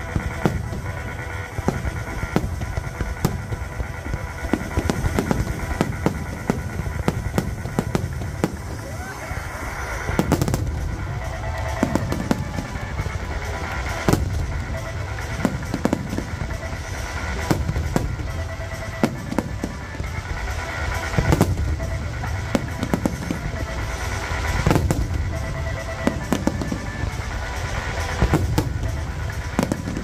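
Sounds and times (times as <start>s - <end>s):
fireworks bursting: 0.0s - 30.0s
music: 0.0s - 30.0s.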